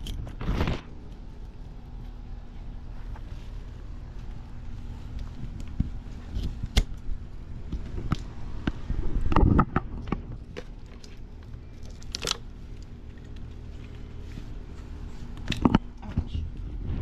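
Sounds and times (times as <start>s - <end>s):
rustling handling noise: 0.0s - 8.9s, 9.9s - 16.3s.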